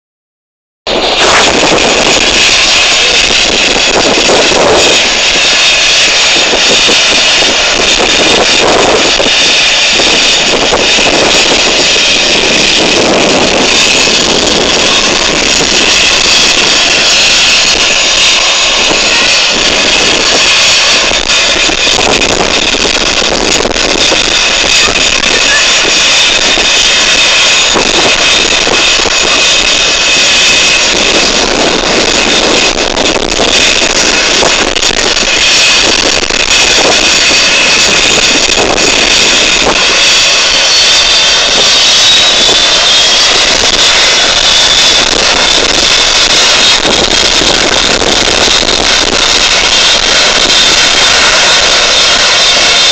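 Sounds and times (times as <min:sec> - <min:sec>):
helicopter rotor noise: 0:00.9 - 0:52.9
helicopter turbine whine: 0:00.9 - 0:52.9.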